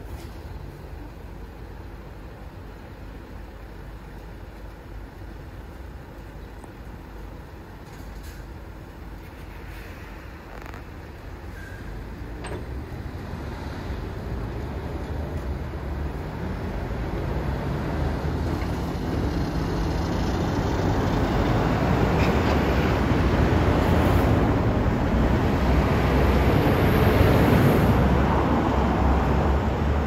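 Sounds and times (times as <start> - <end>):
truck engine and tyres rumbling: 0.0 - 30.0.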